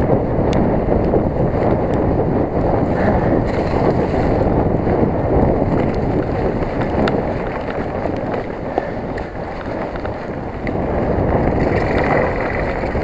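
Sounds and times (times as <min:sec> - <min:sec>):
bike clicks and rattles: 0:00.0 - 0:13.0
wind roaring over microphone: 0:00.0 - 0:13.0.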